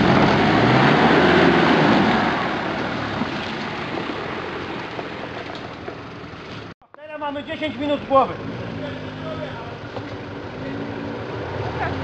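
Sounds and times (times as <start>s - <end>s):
suv engine driving past: 0.0s - 6.7s, 7.7s - 12.0s
tyres rushing through mud: 0.0s - 6.8s, 7.4s - 12.0s.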